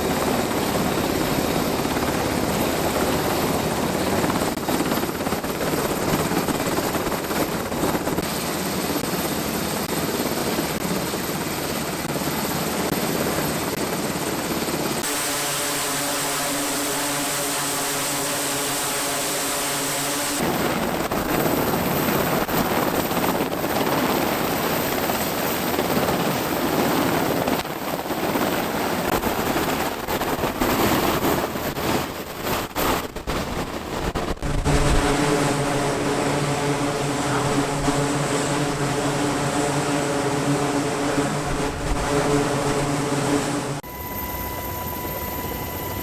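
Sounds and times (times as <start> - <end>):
aircraft engine hum: 0.0 - 46.0
aircraft engine rushing roar: 0.0 - 46.0.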